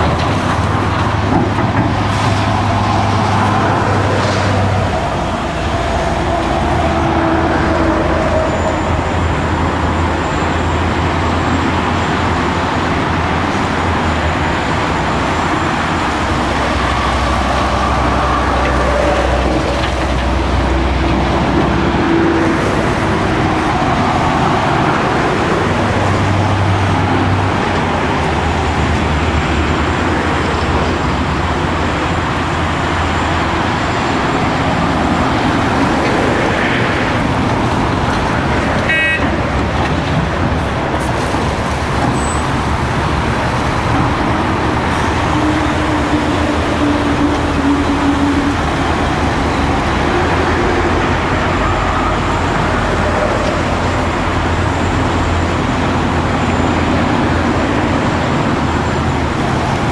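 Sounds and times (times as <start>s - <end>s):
excavator engine and hydraulics: 0.0s - 59.9s.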